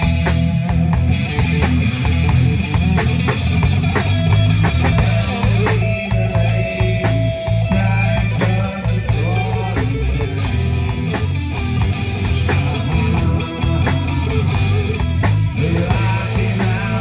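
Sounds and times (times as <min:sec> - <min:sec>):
bass guitar: 0:00.0 - 0:17.0
drum beat: 0:00.0 - 0:17.0
electric guitar: 0:00.0 - 0:17.0.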